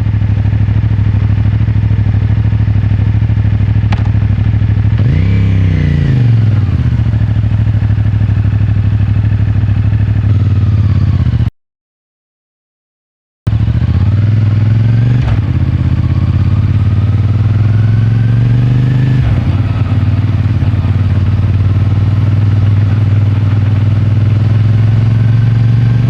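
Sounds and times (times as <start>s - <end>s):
motorcycle engine idling: 0.0s - 5.2s, 6.0s - 11.5s, 13.5s - 18.3s, 18.9s - 25.4s.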